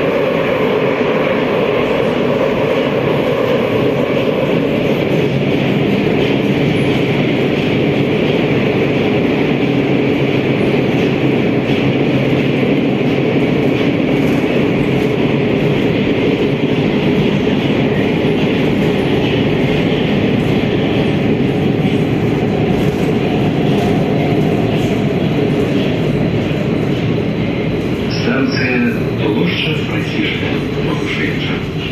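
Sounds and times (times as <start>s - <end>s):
metro train rumbling in tunnel: 0.0s - 31.9s.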